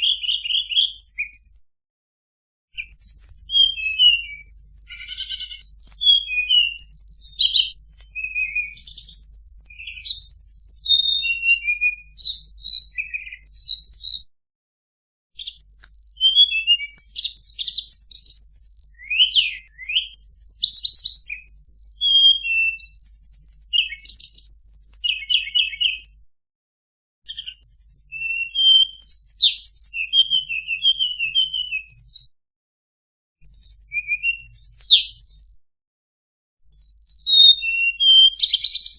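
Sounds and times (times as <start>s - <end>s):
songbird singing chirps and trills: 0.0s - 1.6s, 2.8s - 14.3s, 15.4s - 26.2s, 27.3s - 32.3s, 33.4s - 35.6s, 36.7s - 38.9s.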